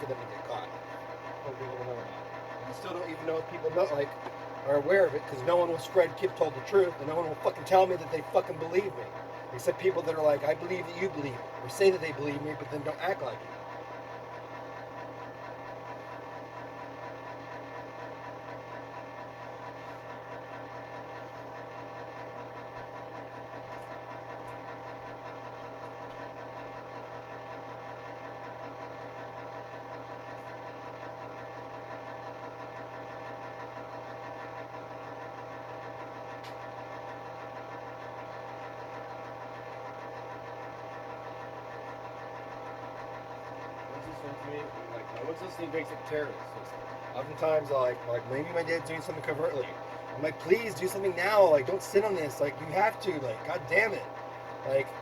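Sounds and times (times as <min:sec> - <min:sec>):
heater fan motor humming: 0:00.0 - 0:55.0.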